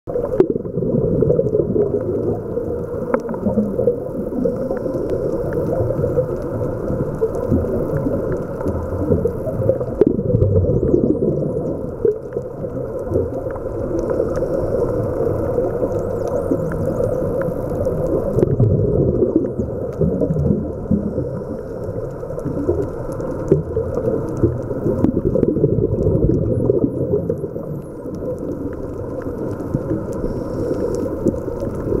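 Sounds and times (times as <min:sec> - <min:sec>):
underwater rumble: 0:00.1 - 0:32.0.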